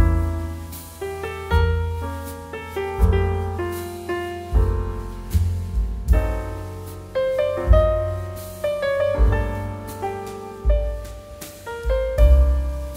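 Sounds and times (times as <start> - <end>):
piano music: 0.0 - 12.9.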